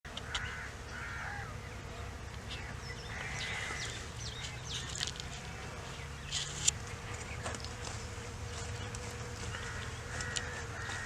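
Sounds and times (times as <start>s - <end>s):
birds chirping: 0.1s - 11.0s
honey bees buzzing: 0.1s - 11.0s.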